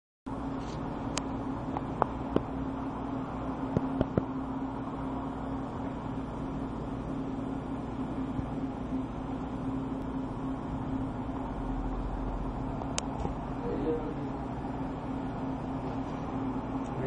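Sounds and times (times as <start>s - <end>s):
steady low hum: 0.3s - 17.0s.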